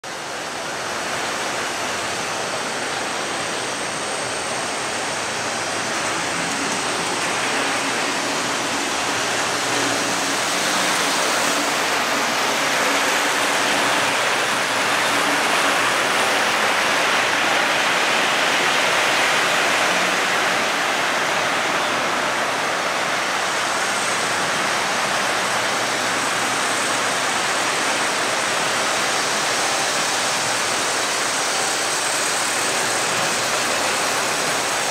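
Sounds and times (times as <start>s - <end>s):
model trains whirring: 0.0s - 34.9s.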